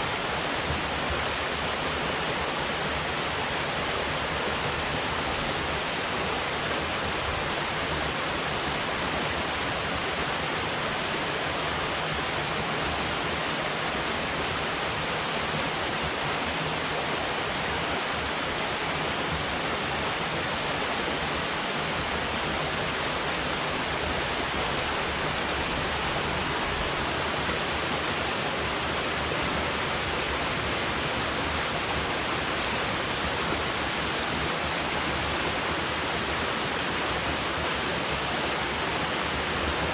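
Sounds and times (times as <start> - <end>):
water roaring down river: 0.0 - 39.9.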